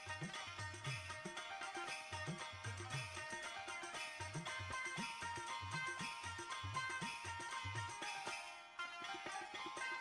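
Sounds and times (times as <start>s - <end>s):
folk tune with drums: 0.0s - 10.0s.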